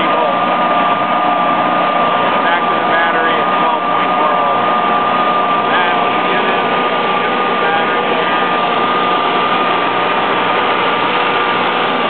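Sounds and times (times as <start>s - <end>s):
generator running with high whine: 0.0s - 12.0s.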